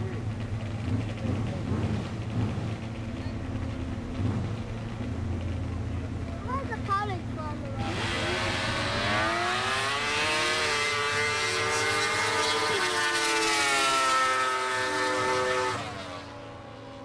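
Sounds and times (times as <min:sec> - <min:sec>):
motorcycle engine racing: 0:00.0 - 0:17.0
snowmobile engine accelerating: 0:00.0 - 0:17.0.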